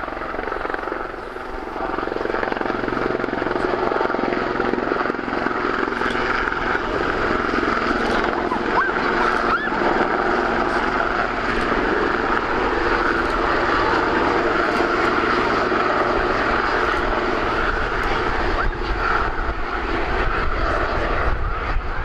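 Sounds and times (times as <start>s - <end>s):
helicopter turbine whine: 0.0s - 22.0s
rotor blades beating: 0.0s - 22.0s.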